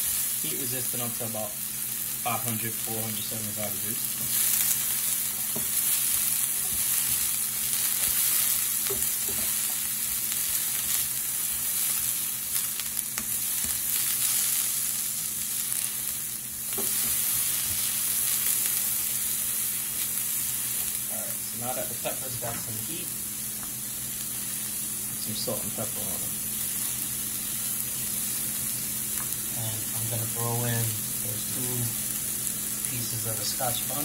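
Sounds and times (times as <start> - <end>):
peppers sizzling in a hot pan: 0.0 - 34.0.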